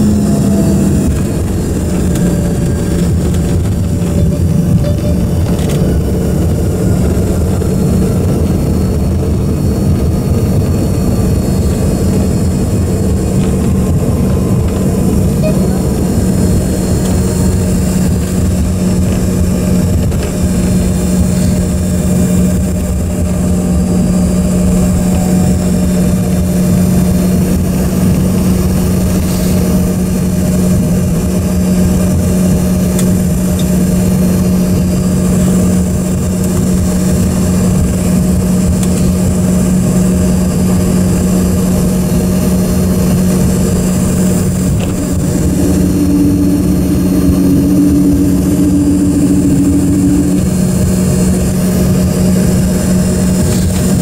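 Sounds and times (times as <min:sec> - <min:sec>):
higher hum: 0:00.0 - 0:54.0
jet engine hum in cabin: 0:00.0 - 0:54.0.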